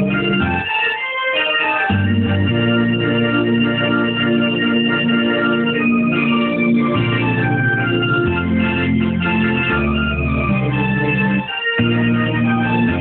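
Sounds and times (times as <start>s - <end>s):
electronic keyboard playing a march: 0.0s - 13.0s.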